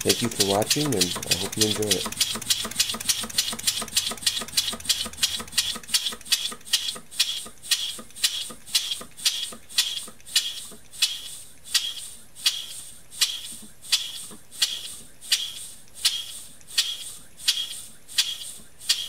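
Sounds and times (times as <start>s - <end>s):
air engine exhaust puffs: 0.0s - 19.0s.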